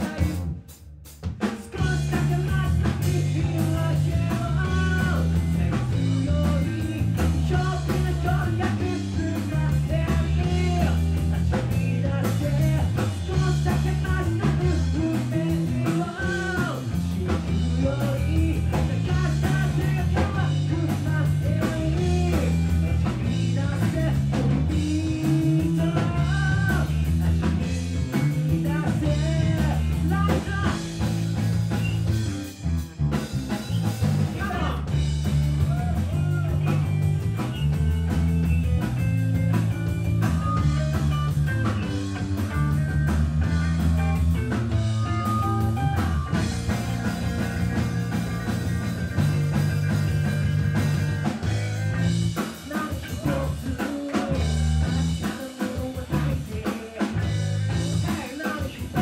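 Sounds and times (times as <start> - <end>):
man singing: 0.0 - 0.6, 1.4 - 31.2, 34.3 - 37.6, 40.2 - 44.0, 45.0 - 48.4, 51.9 - 59.0
electric bass line: 0.0 - 59.0
live rock band playing: 0.0 - 59.0.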